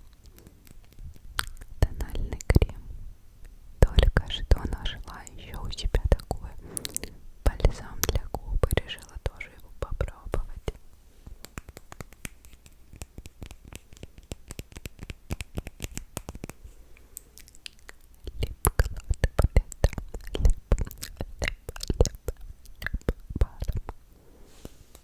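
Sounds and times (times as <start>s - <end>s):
wet mouth and lip clicks: 0.0s - 2.8s, 3.4s - 9.2s, 9.8s - 24.0s.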